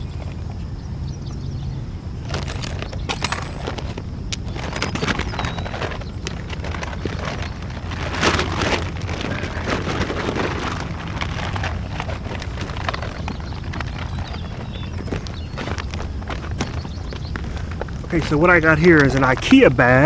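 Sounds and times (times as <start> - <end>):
footsteps on gravel: 2.2 - 20.0
plastic bag crinkling: 2.2 - 20.0.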